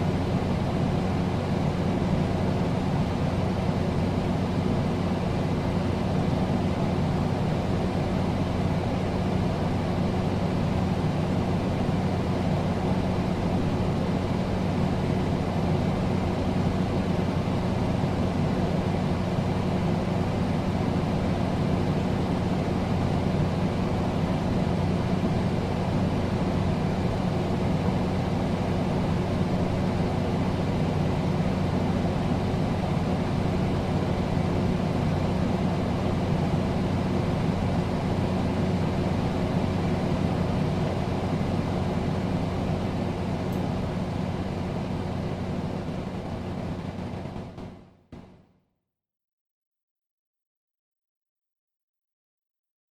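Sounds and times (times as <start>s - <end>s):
air conditioner running: 0.0s - 48.3s.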